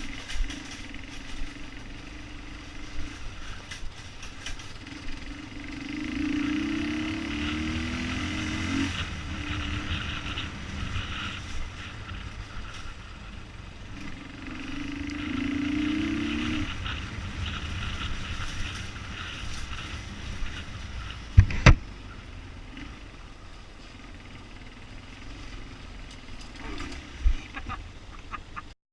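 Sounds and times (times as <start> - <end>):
motorcycle engines revving: 0.0 - 28.7.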